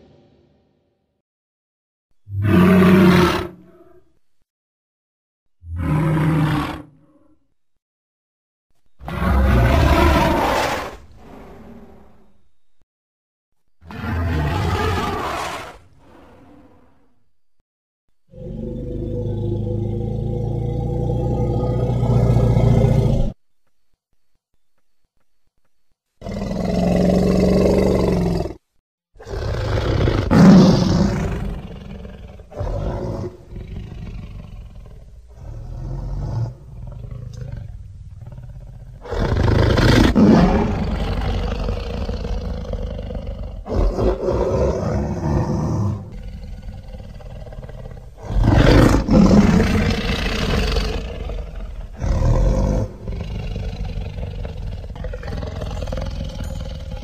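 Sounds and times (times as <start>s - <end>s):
dinosaur roars and growls: 2.3s - 4.1s, 5.6s - 7.4s, 9.0s - 12.3s, 13.8s - 17.3s, 18.3s - 23.4s, 26.2s - 28.6s, 29.2s - 57.0s.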